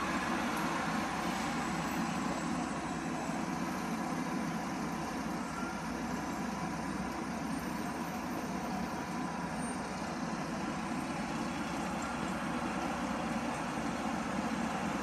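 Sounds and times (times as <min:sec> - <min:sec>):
road traffic engines: 0:00.0 - 0:15.0.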